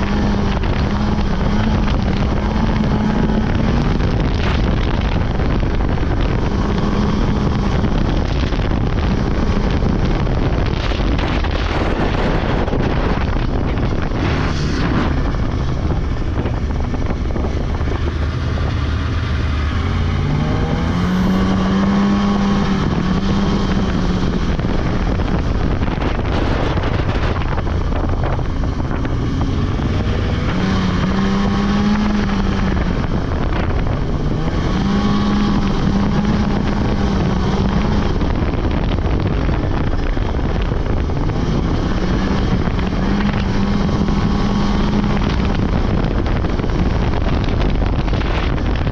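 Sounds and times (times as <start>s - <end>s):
snowmobile engine revving: 0.0s - 48.7s
wind buffeting microphone: 0.0s - 48.9s.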